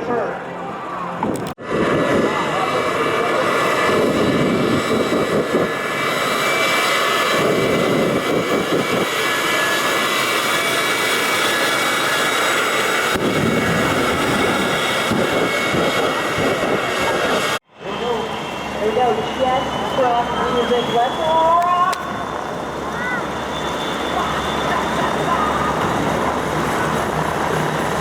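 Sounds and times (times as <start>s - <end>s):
jet engine roaring: 0.0s - 28.0s.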